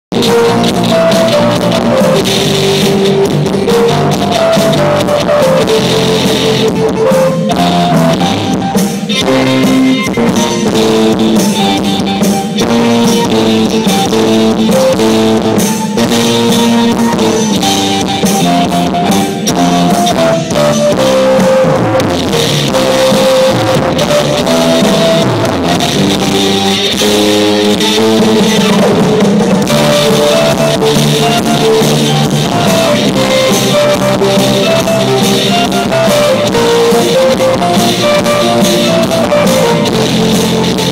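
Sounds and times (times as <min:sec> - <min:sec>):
drum kit: 0:00.1 - 0:40.9
electric guitar: 0:00.1 - 0:40.9
live pop band playing: 0:00.1 - 0:40.9.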